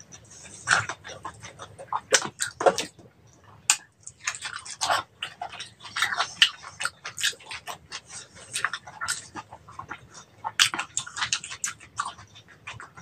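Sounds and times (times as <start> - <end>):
chewing crispy pork skin: 0.0 - 13.0.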